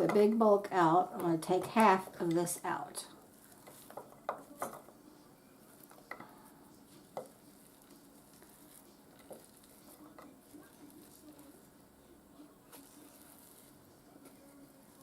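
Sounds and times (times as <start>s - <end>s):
faint sizzle of frying food: 1.6s - 15.0s.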